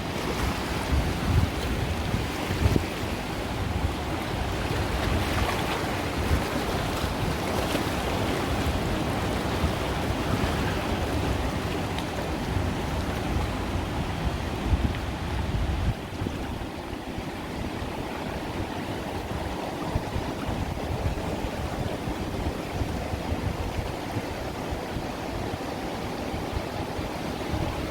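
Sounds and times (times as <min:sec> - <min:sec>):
ocean surf washing on beach: 0:00.0 - 0:27.9.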